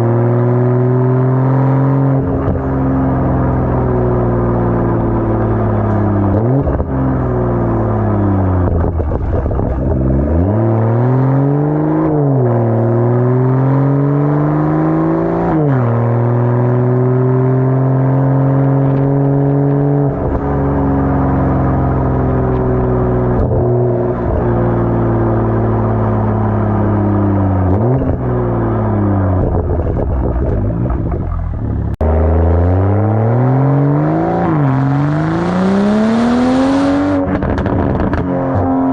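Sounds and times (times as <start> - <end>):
car engine through loud exhaust: 0.0 - 38.9.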